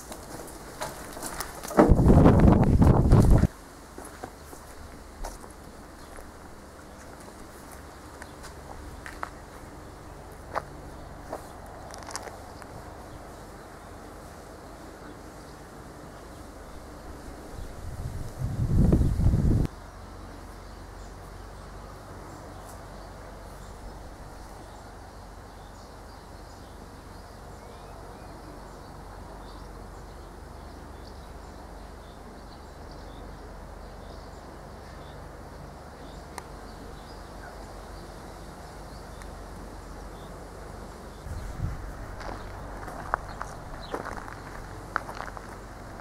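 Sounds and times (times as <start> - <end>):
low background noise: 0.0 - 46.0.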